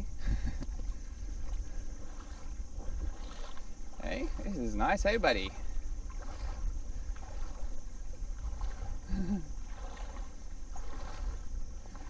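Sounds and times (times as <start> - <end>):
shallow water washing: 0.0 - 12.0
wind buffeting microphone: 0.0 - 12.0.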